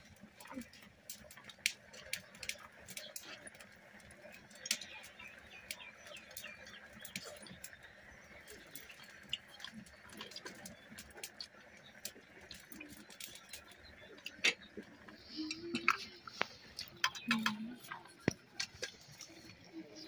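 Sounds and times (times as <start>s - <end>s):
birds chirping: 0.0s - 20.0s
people eating with fingers: 0.0s - 20.0s.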